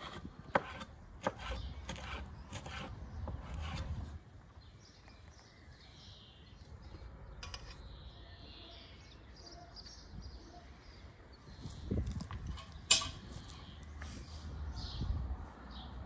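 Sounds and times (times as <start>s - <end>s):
small birds singing and chirping: 0.1s - 16.0s.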